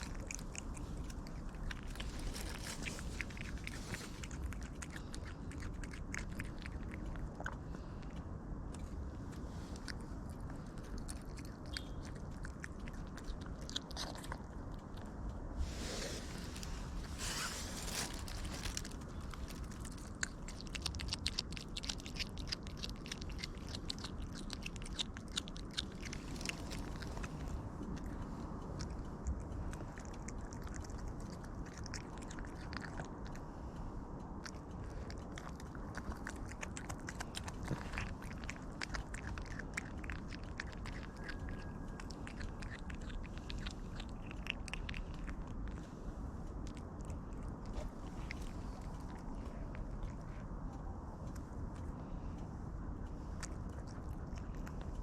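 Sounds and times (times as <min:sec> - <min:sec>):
cat chewing meat: 0:00.0 - 0:55.0.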